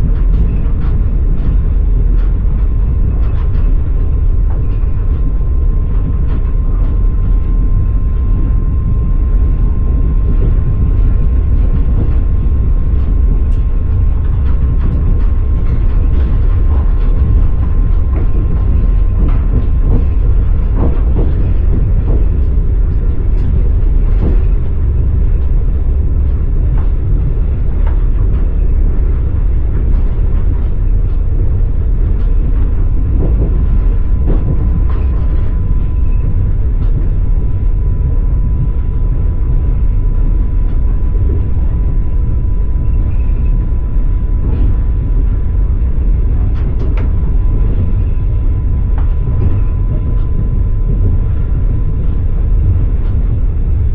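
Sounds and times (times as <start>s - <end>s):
thin steady whine: 0.0s - 53.9s
train wheels rumbling: 0.0s - 53.9s.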